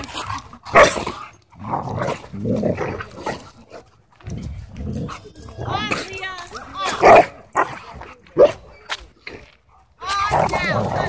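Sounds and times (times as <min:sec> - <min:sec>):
dogs growling: 0:00.0 - 0:09.6, 0:10.2 - 0:11.0.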